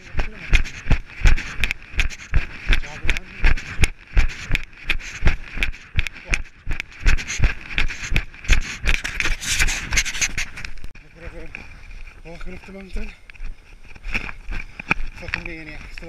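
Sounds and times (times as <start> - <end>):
running footsteps on gravel: 0.0 - 16.0
rustle: 0.0 - 16.0.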